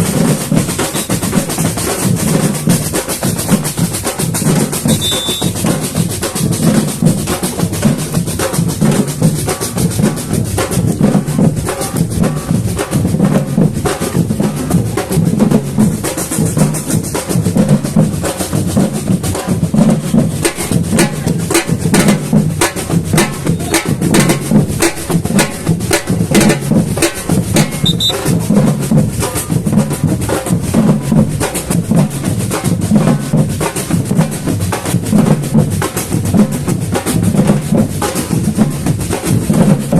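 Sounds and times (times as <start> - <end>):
samba drumming ensemble: 0.0 - 39.9.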